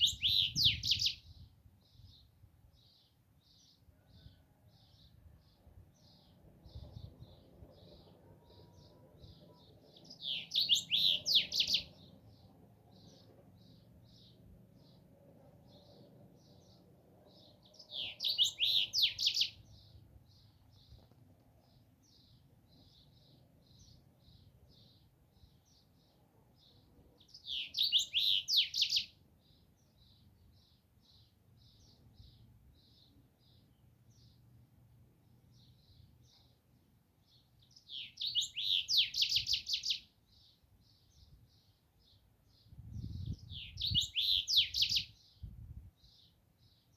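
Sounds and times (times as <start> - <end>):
faint steady bird chirping: 0.0 - 46.9
songbird singing: 0.0 - 46.9.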